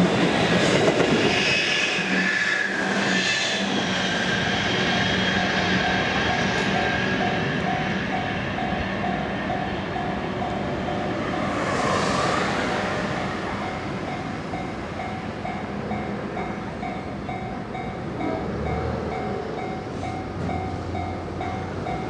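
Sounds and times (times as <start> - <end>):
train rushing past: 0.0 - 22.0.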